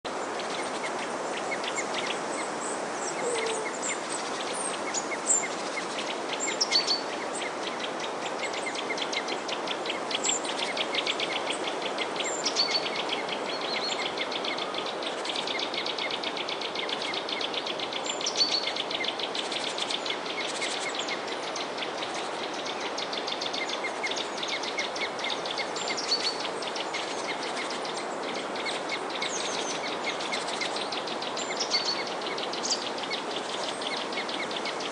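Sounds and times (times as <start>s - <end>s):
songbirds chirping and twittering: 0.0s - 34.9s
steady background hiss: 0.1s - 34.9s.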